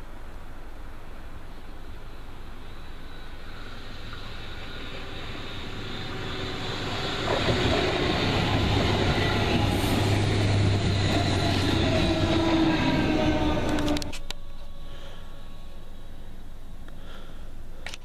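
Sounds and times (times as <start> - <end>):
electric hum of train: 0.0 - 18.0
train wheels rumbling on rail: 1.5 - 16.4.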